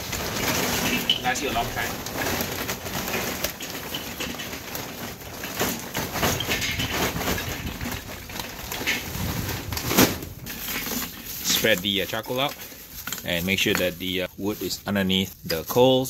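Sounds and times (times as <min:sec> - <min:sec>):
charcoal clattering into metal bowl: 0:00.0 - 0:14.3.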